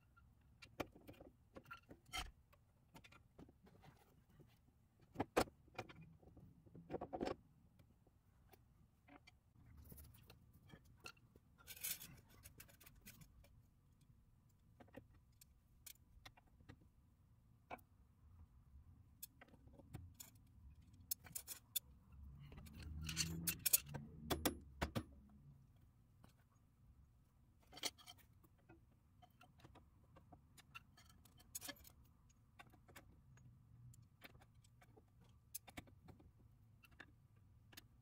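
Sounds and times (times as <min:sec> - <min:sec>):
metallic clicks and scrapes: 0:00.1 - 0:16.8, 0:19.2 - 0:25.2, 0:27.5 - 0:38.0.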